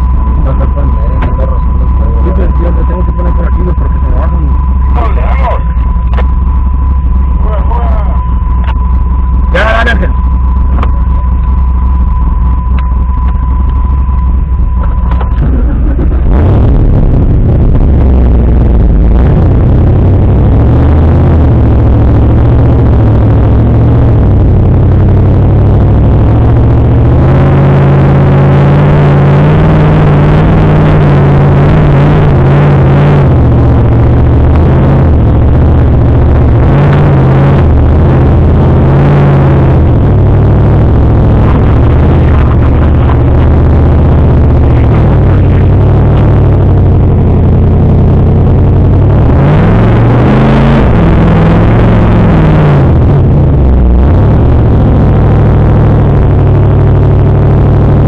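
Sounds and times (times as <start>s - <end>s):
vehicle engine under load: 0.0s - 58.0s.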